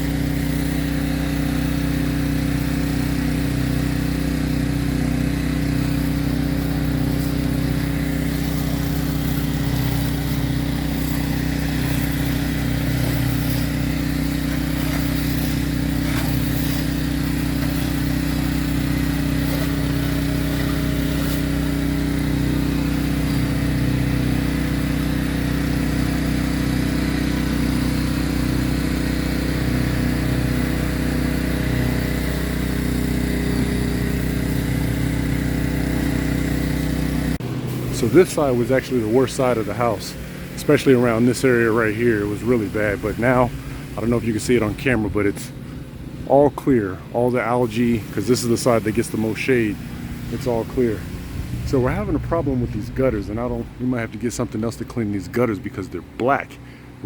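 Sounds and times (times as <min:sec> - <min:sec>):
pressure washer engine running: 0:00.0 - 0:57.0.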